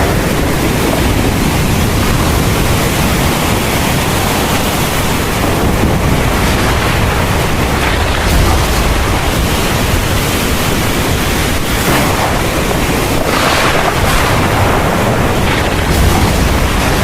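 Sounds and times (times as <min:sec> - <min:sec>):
heavy rain pouring: 0:00.0 - 0:17.0
low thunder rumble: 0:00.0 - 0:17.0.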